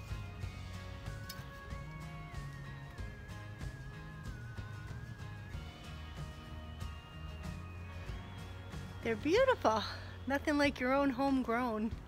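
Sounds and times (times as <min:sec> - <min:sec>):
guitar with a steady beat: 0:00.0 - 0:12.0
held gliding melody line: 0:00.0 - 0:12.0.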